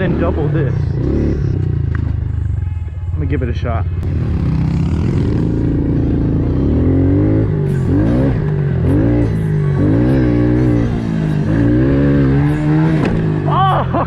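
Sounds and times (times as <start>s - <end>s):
pit bike engine revving: 0.0s - 2.5s, 4.0s - 14.0s.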